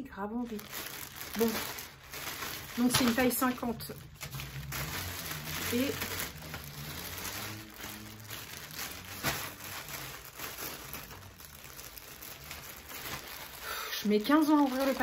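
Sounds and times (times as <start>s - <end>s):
packaging crinkling and rustling: 0.2s - 15.0s.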